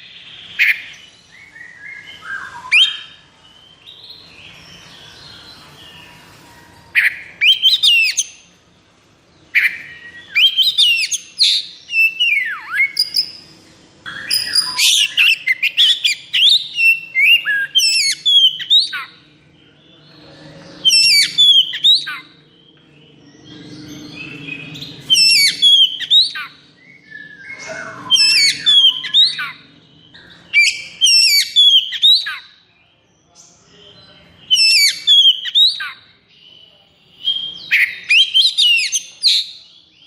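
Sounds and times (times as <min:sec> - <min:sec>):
bird singing rapid whistles: 0:00.0 - 0:06.2, 0:07.0 - 0:08.4, 0:09.5 - 0:19.2, 0:20.8 - 0:32.6, 0:34.5 - 0:36.2, 0:37.2 - 0:39.6.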